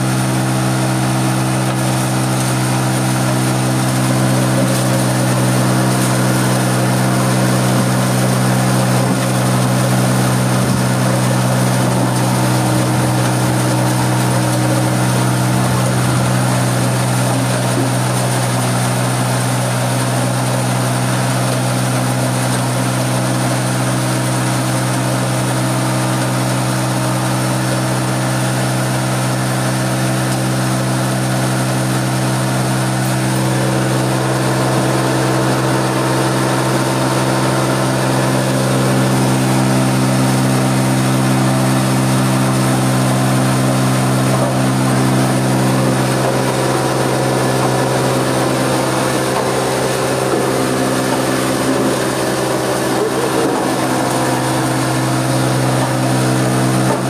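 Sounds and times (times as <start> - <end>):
stone crusher running: 0.0 - 57.0.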